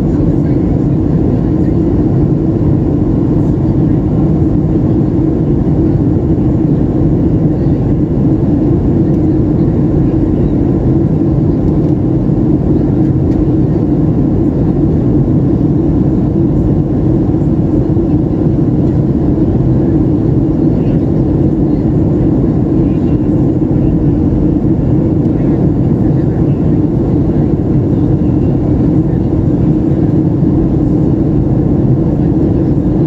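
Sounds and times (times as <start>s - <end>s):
airplane cabin engine drone: 0.0s - 33.0s.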